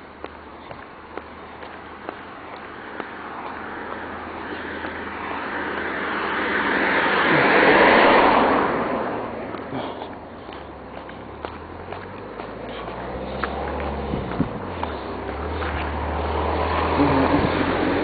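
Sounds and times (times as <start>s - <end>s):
vehicle passing by: 1.2s - 18.0s.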